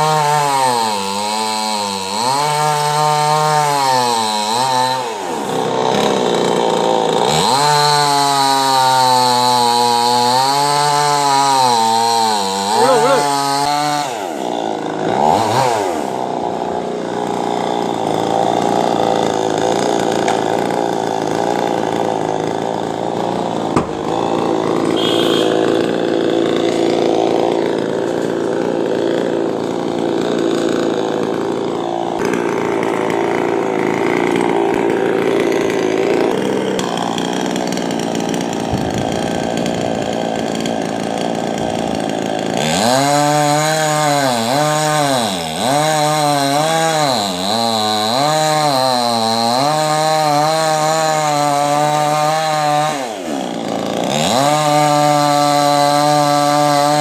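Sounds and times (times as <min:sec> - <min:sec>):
chainsaw cutting through trunk: 0:00.0 - 0:57.0.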